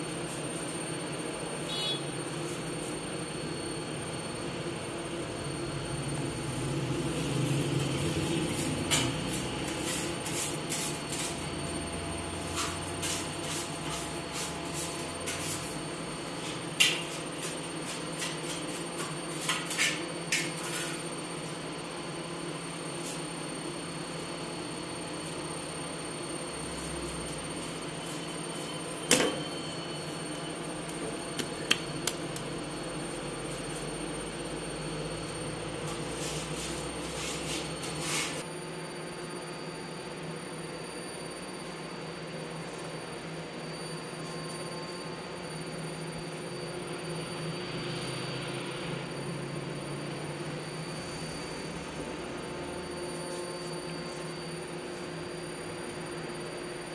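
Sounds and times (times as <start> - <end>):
bakery machinery humming: 0.0 - 56.9.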